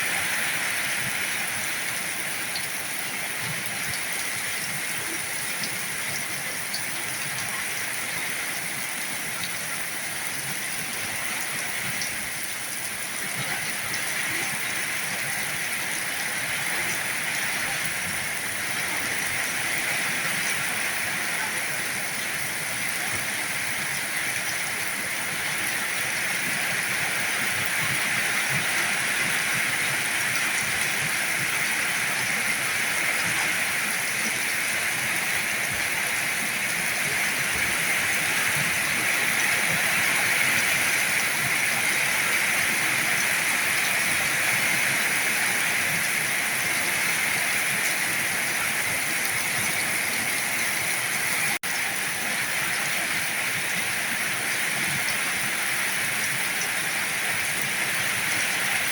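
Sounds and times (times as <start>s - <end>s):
heavy rain hiss: 0.0s - 58.9s.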